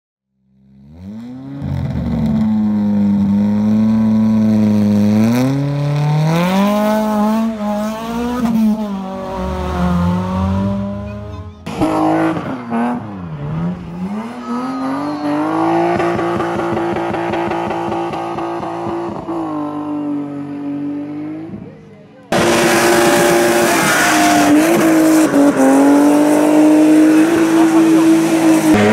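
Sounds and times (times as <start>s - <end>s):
race car engine revving: 0.6s - 28.9s.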